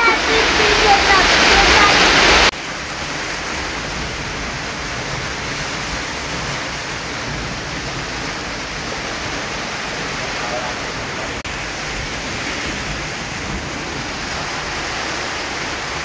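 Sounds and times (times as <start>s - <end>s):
low rumbling gusts: 0.0s - 16.0s
stormy wind rushing: 0.0s - 16.0s.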